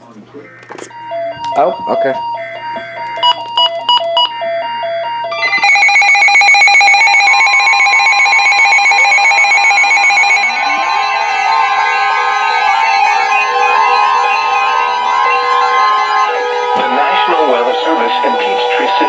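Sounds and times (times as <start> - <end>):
pulsing electronic alert tone: 1.1 - 4.4, 5.4 - 18.3.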